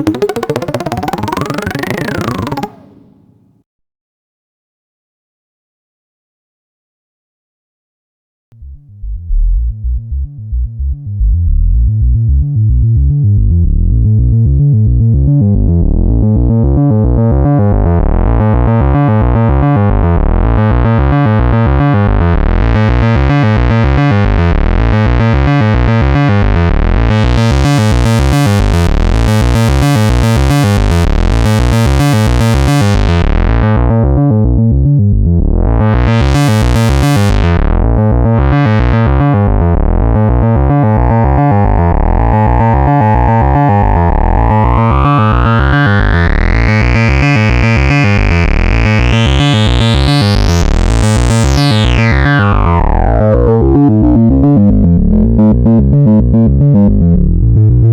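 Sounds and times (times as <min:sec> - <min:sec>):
synthesizer low note sequence: 0:00.0 - 0:03.4, 0:08.6 - 0:57.9.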